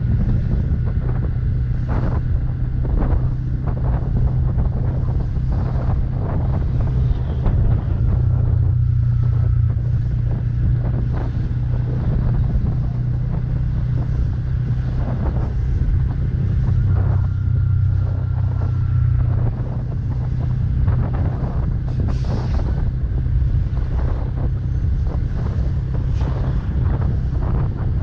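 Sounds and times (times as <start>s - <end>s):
motorcycle engine humming: 0.0s - 28.0s
wind on microphone: 0.0s - 28.0s.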